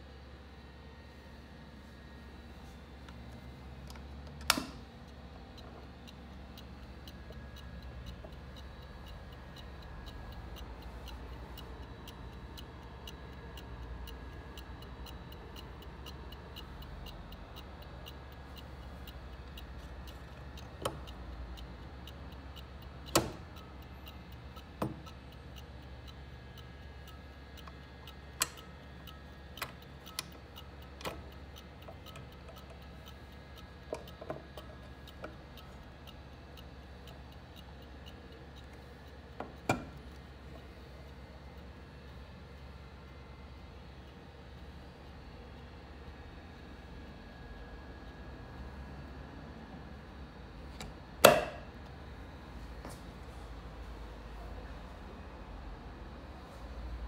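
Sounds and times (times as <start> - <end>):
chronometer ticking: 0.0 - 53.0.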